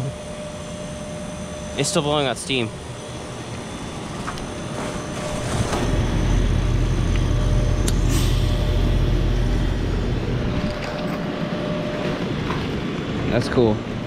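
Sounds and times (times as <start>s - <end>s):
faint constant hum: 0.0s - 14.0s
heat pump low rumble: 0.0s - 14.0s.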